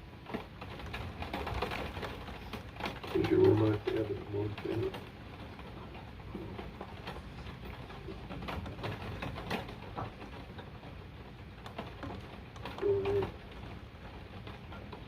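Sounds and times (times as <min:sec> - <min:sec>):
raindrops ticking: 0:00.2 - 0:15.0.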